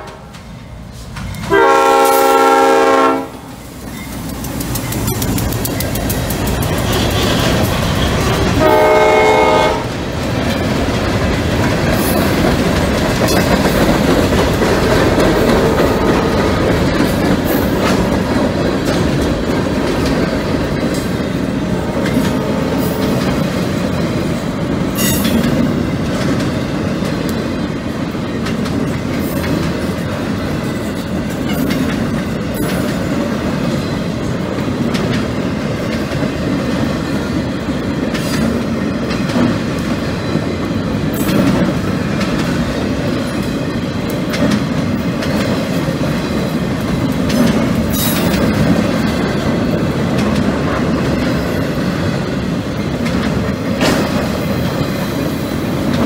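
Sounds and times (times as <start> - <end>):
rumble of train wheels on rail: 0.0 - 56.0
wheels clicking over rail joints: 3.5 - 56.0.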